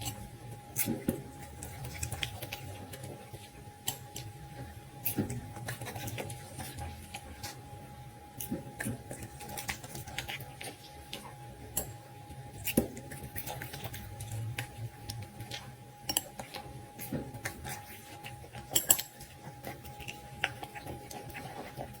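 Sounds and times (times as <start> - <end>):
dog chewing food: 0.0 - 7.8, 8.4 - 22.0
food against bowl: 0.0 - 22.0.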